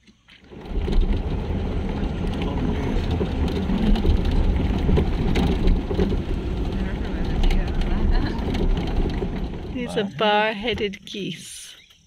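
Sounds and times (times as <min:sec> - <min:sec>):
jeep driving on dirt track: 0:00.4 - 0:10.9.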